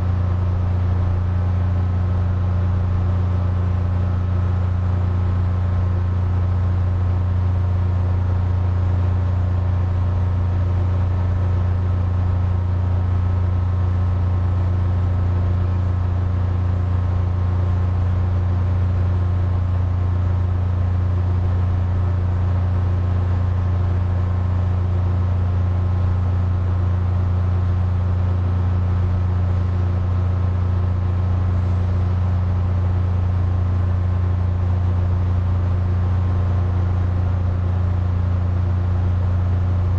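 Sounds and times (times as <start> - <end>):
air conditioner humming and whirring: 7.7 - 39.9.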